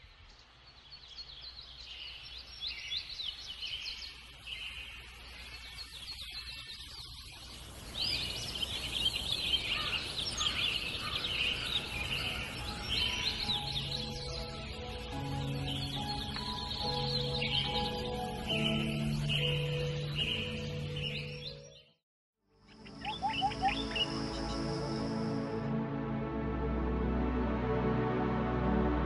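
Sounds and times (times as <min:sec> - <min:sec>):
birds chirping and trilling: 0:00.0 - 0:22.0, 0:22.7 - 0:25.5.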